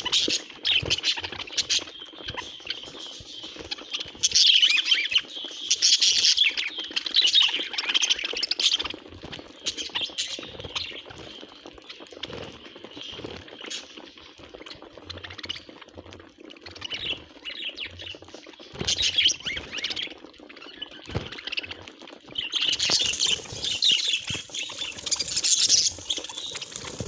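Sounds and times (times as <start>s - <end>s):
budgerigars chattering and chirping: 0.0s - 15.9s, 16.6s - 27.0s
beaks pecking seed: 0.0s - 27.0s.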